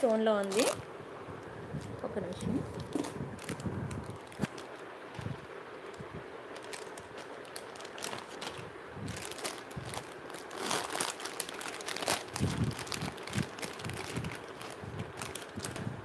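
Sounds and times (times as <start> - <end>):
plastic pouches crinkling: 0.0 - 0.8, 1.8 - 16.0.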